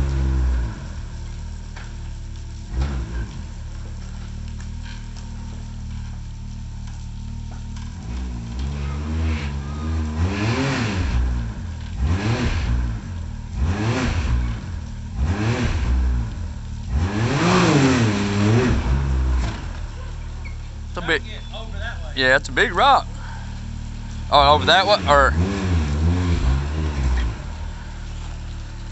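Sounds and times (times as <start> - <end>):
engine idling and revving: 0.0 - 28.9.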